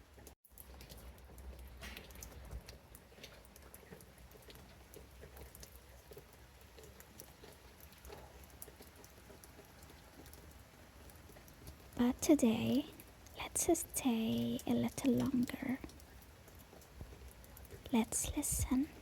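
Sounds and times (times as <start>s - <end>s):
light rain ticking: 0.0s - 19.0s.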